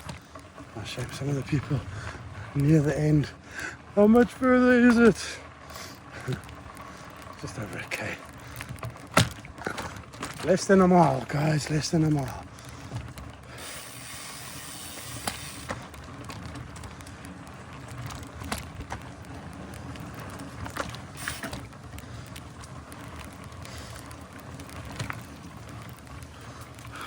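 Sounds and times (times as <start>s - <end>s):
bike clicks and knocks: 0.0s - 2.8s, 5.7s - 27.0s
bike tyres rumbling on dirt: 0.0s - 27.0s.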